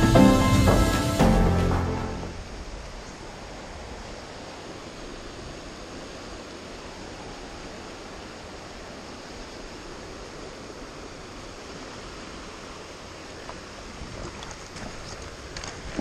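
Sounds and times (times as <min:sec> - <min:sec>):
river water running over rocks: 0:00.0 - 0:16.0.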